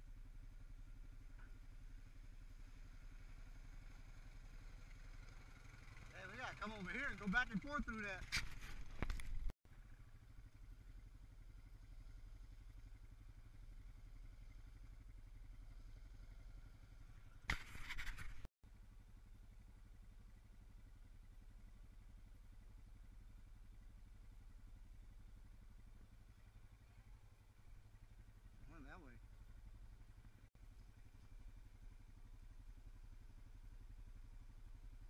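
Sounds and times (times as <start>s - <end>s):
distant atv engine: 0.0s - 35.0s.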